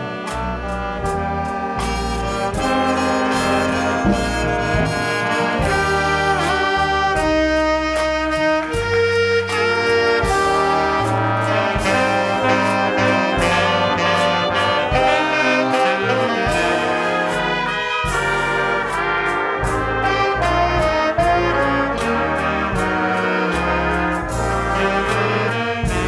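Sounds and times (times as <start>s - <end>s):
jazz horn section playing: 0.0s - 26.0s
steady beat: 0.0s - 26.0s.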